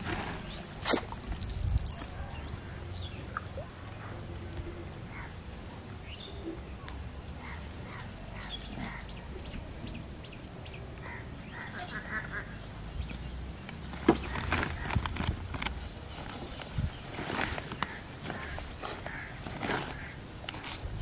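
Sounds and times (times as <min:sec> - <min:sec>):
low outdoor background: 0:00.0 - 0:21.0
birds chirping: 0:00.3 - 0:21.0.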